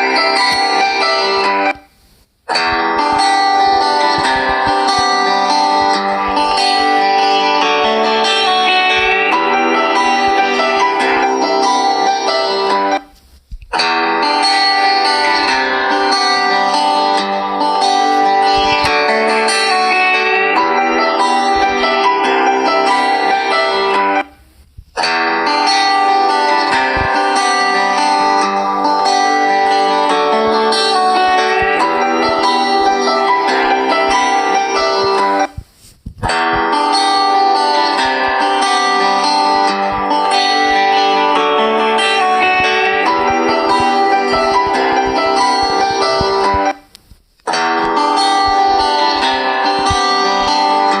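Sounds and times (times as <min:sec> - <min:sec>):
guitar-led ringtone melody: 0:00.0 - 0:51.0.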